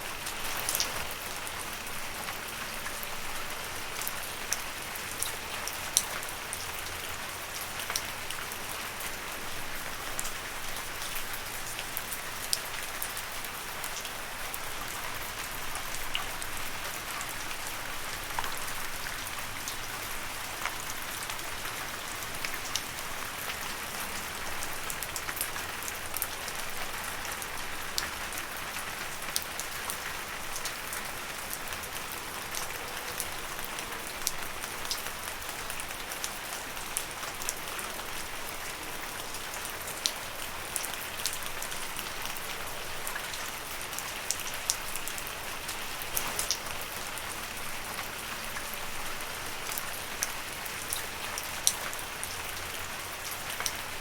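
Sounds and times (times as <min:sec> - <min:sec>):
rain falling on leaves: 0:00.0 - 0:54.0
sharp raindrops striking nearby: 0:00.0 - 0:54.0.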